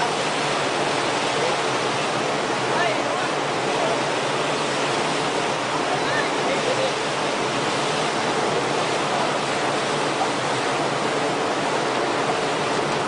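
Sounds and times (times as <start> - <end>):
churning seawater rushing: 0.0 - 13.0.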